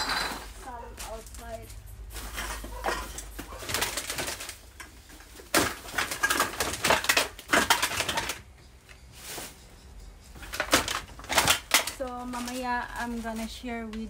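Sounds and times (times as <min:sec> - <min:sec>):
plastic bags of bottles rustling: 0:00.0 - 0:14.0.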